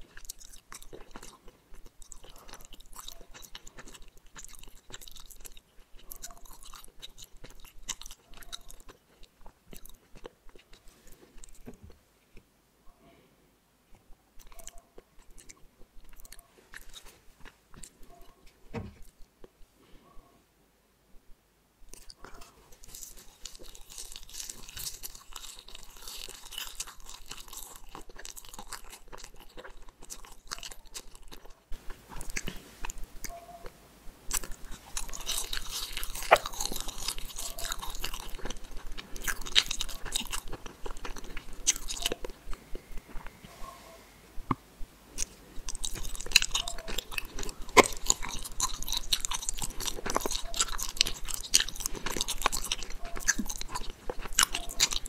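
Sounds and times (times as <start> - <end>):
chewing gummy candies: 0.0 - 12.5, 13.9 - 19.6, 21.8 - 33.4, 34.2 - 43.6, 44.4 - 55.0.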